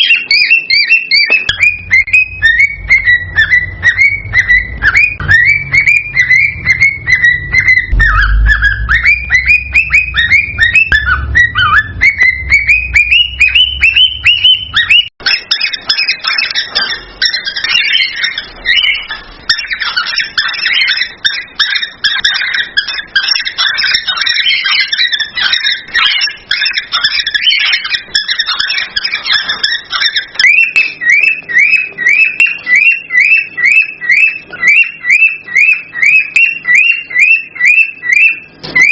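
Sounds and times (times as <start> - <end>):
cockatiels chirping and whistling: 0.0 - 38.9
overlapping bird chatter: 0.0 - 38.9.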